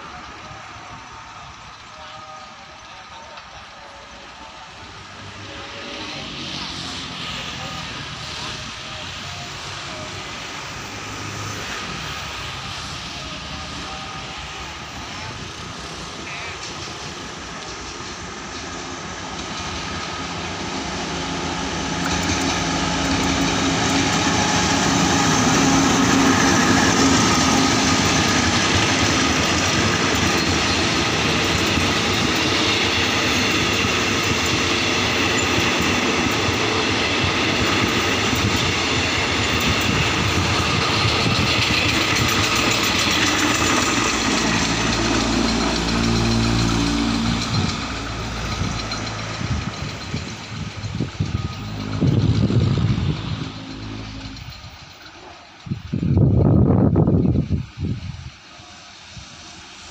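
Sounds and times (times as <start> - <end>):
diesel locomotive passing: 0.0 - 59.9.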